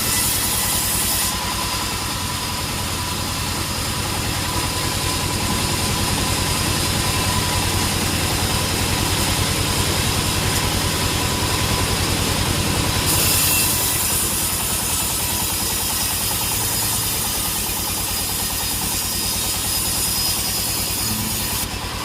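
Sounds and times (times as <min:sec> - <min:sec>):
sawmill engine running: 0:00.0 - 0:22.0.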